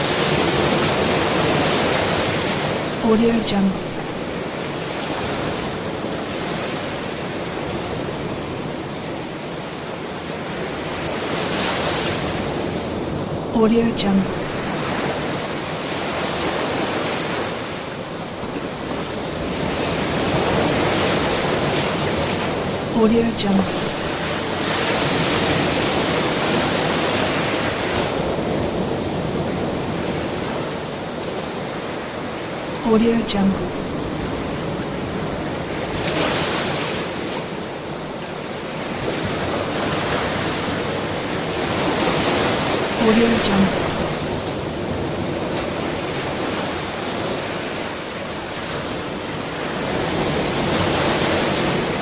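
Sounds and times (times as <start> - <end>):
ocean waves washing in: 0.0 - 52.0.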